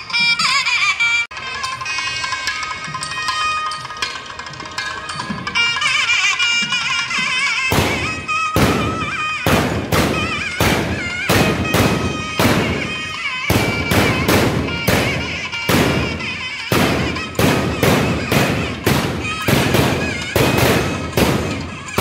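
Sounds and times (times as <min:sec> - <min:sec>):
firework tubes banging in chain: 0:01.4 - 0:22.0.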